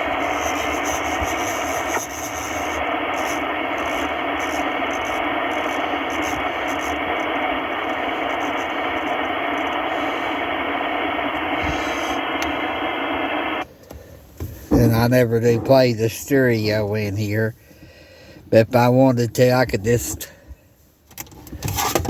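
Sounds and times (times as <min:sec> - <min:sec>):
radio static hiss: 0:00.0 - 0:13.7, 0:14.4 - 0:17.6, 0:18.5 - 0:20.4.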